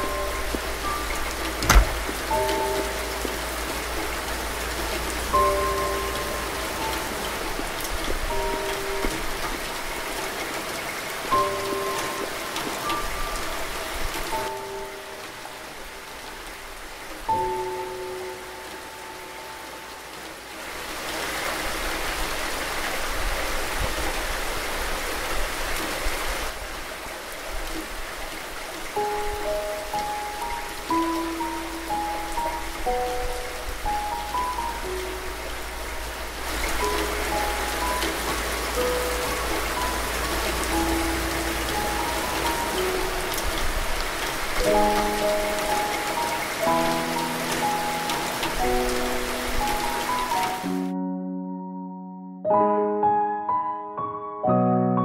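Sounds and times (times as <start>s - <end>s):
soft sustained music notes: 0.0s - 21.0s, 28.9s - 53.4s
steady rain falling: 0.0s - 51.0s.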